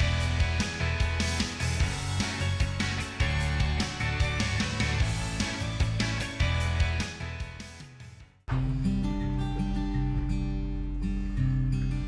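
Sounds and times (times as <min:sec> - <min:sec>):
upbeat guitar music with drums: 0:00.0 - 0:11.1.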